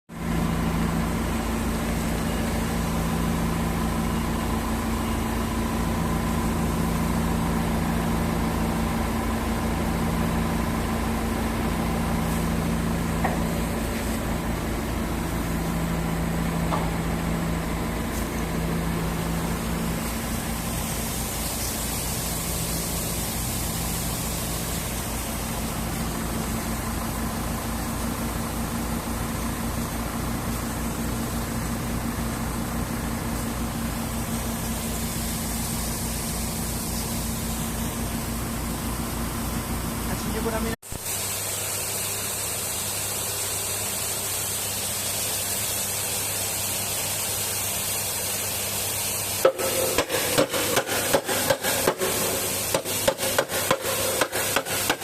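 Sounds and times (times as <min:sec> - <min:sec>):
combine harvester engine drone: 0:00.1 - 0:45.5, 0:48.4 - 0:55.0.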